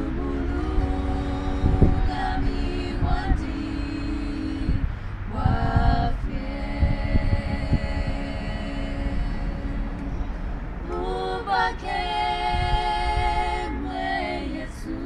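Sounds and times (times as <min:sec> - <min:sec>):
women singing a cappella hymn: 0:00.0 - 0:15.0.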